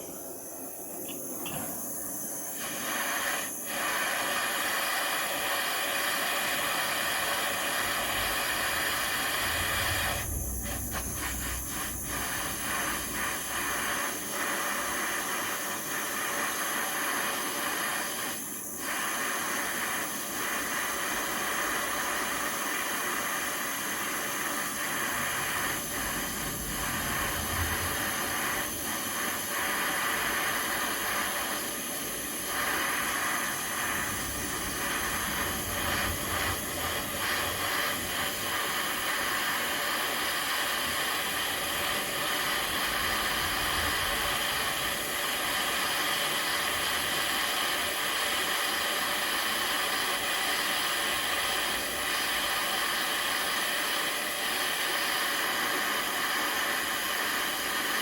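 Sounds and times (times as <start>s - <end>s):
gas torch hissing: 0.0s - 58.0s.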